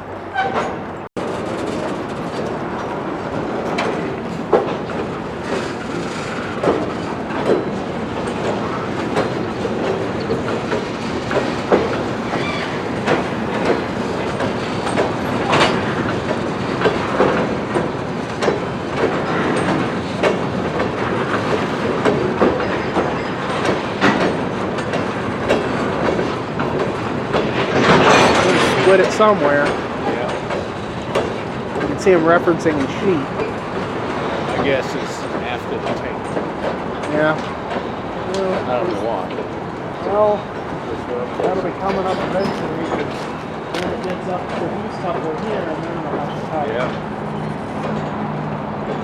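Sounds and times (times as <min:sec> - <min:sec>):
freight cars rumbling: 0:00.0 - 0:49.0.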